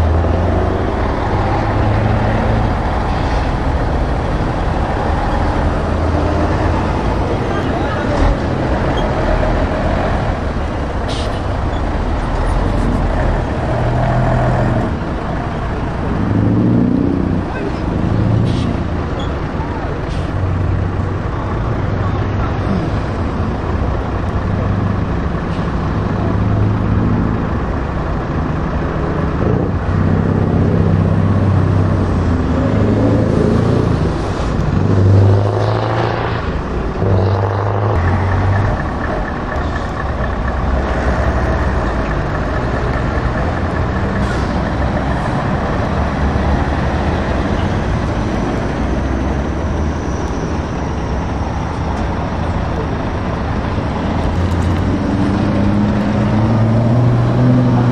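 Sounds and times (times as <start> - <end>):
truck diesel engines driving past: 0.0 - 57.9.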